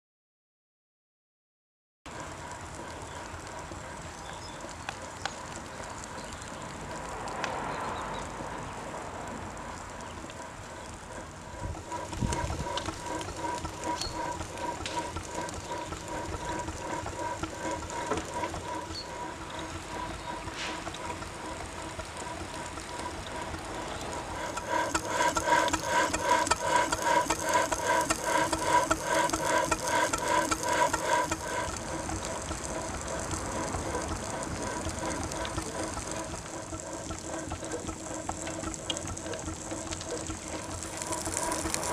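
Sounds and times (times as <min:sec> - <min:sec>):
steam traction engine running: 0:02.1 - 0:41.9.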